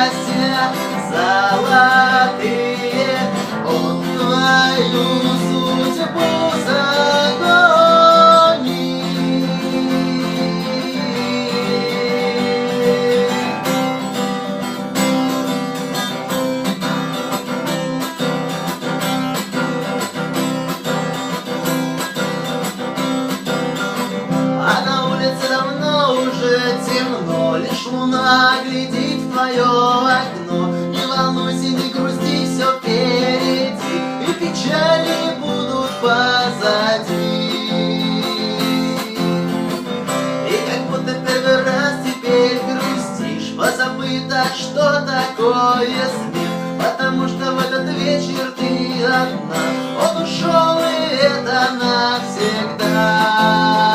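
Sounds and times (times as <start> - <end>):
acoustic guitar strumming: 0.0 - 53.9.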